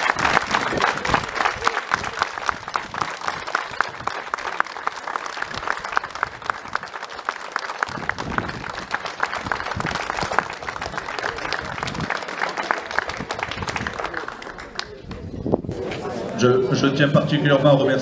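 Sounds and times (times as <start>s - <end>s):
crowd applauding: 0.0s - 15.3s.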